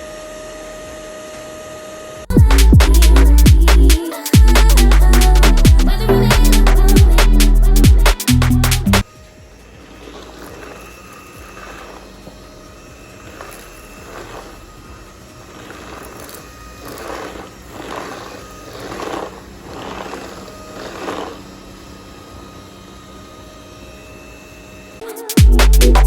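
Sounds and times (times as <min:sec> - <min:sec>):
stick vacuum motor hum: 0:00.0 - 0:26.0.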